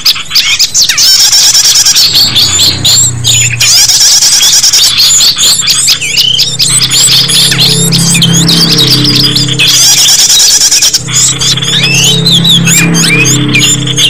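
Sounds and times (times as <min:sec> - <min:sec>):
songbirds chirping and trilling: 0:00.0 - 0:14.0
low droning tones: 0:02.0 - 0:14.0.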